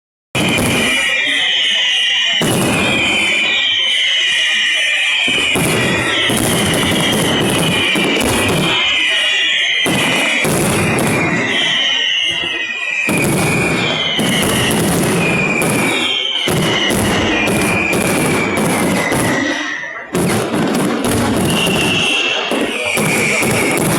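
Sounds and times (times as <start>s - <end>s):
fireworks bangs and crackling: 0.4s - 23.9s.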